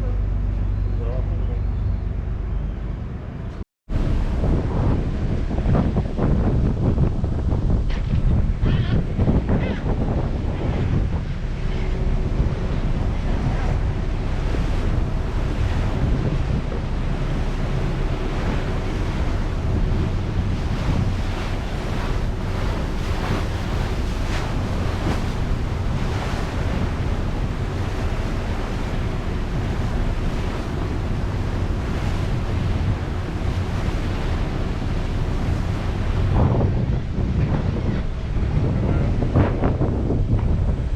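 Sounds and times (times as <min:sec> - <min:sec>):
ferry engine drone: 0:00.0 - 0:40.9
water rushing past hull: 0:00.0 - 0:40.9
wind buffeting microphone: 0:00.0 - 0:40.9.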